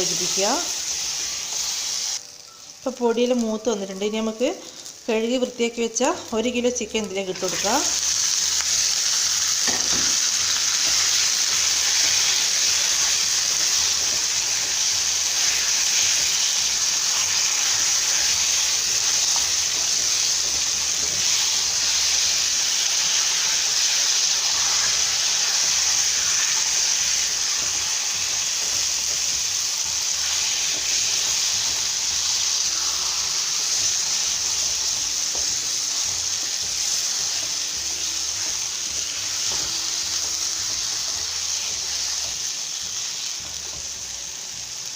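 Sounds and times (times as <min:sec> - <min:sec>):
chicken sizzling in a pan: 0:00.0 - 0:44.9.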